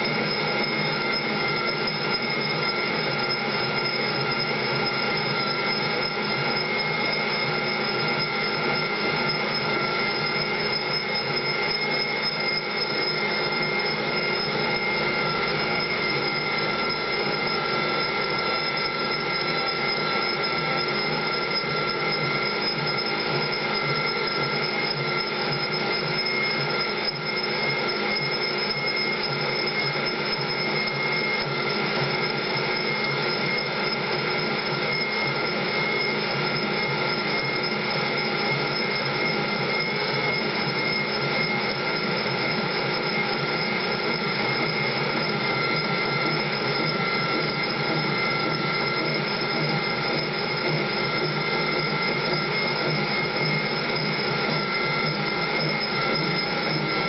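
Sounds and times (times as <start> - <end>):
power tool whining: 0.0 - 57.0.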